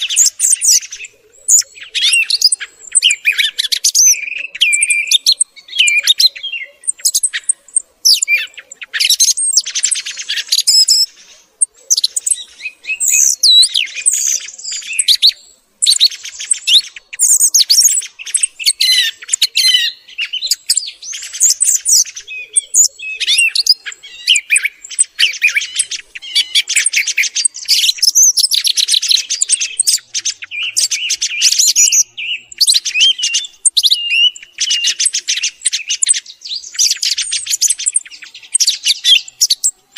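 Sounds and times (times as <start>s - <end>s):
song thrush singing: 0.0s - 39.9s.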